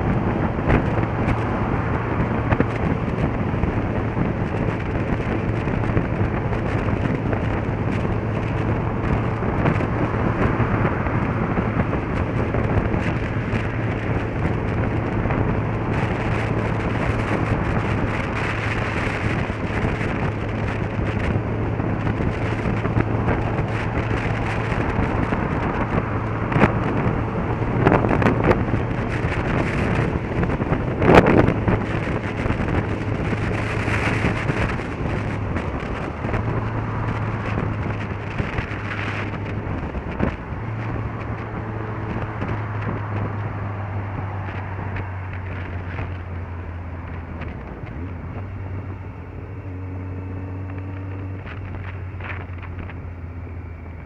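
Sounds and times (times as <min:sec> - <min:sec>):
motorcycle engine: 0:00.0 - 0:54.0
wind and road noise: 0:00.0 - 0:54.0.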